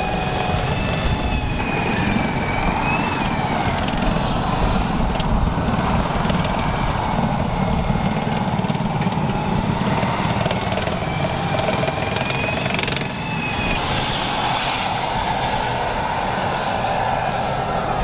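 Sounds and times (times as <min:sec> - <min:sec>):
heavy rumble of tank tracks: 0:00.0 - 0:18.0
turbine engine whine: 0:00.0 - 0:18.0.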